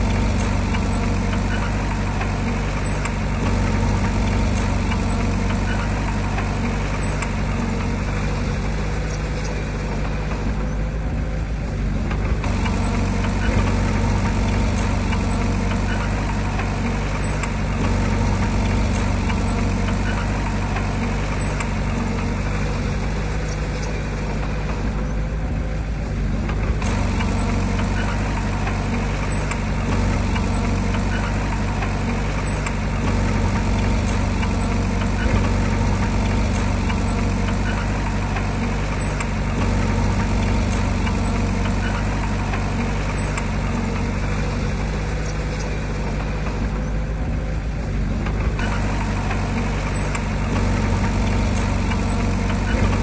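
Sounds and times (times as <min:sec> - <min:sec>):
diesel earthmoving machine engine: 0:00.0 - 0:53.0.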